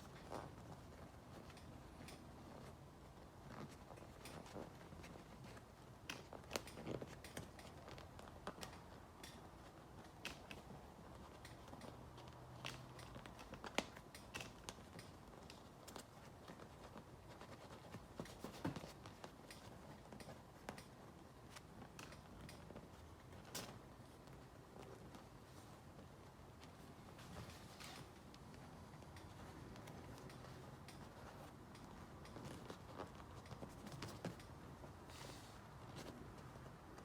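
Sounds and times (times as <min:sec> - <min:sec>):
light rustling: 0:00.0 - 0:37.0.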